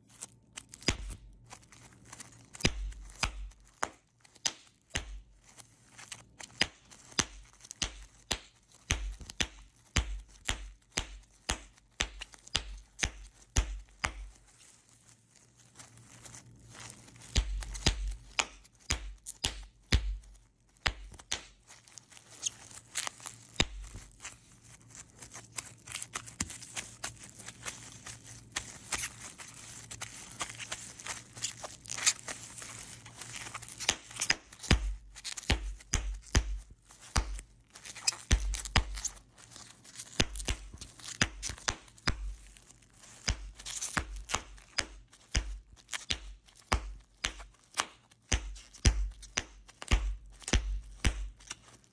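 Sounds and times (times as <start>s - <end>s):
bubble wrap popping: 0.0s - 51.9s
plastic crinkling: 0.0s - 51.9s.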